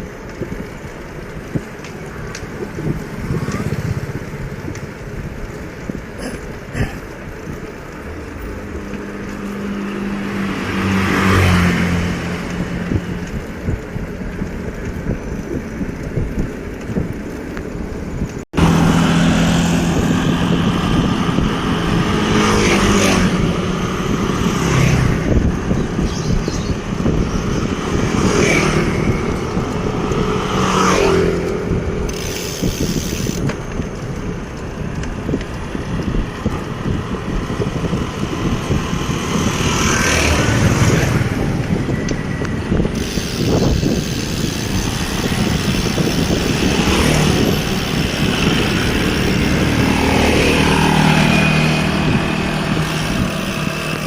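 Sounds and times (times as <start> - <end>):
road and wind noise: 0.0 - 54.0
vehicle engines passing: 0.0 - 54.0.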